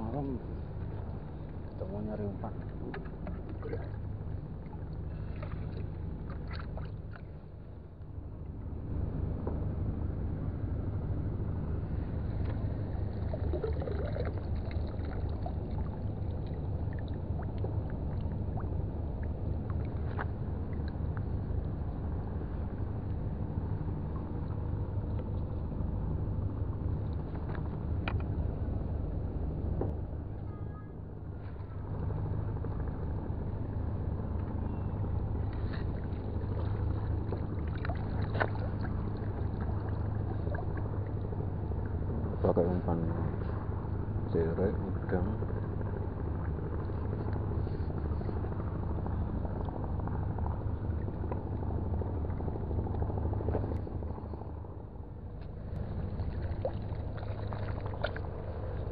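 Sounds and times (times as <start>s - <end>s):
low engine drone: 0.0s - 58.9s.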